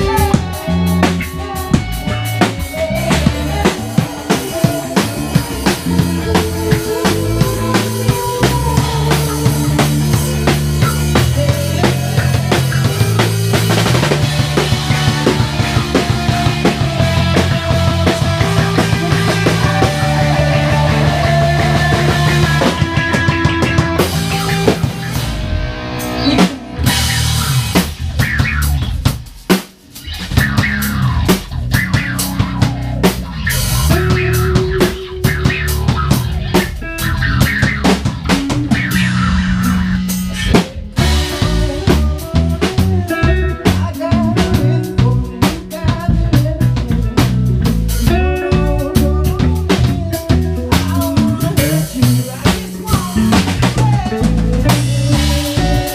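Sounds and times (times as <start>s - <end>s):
blues rock band: 0.0s - 55.9s.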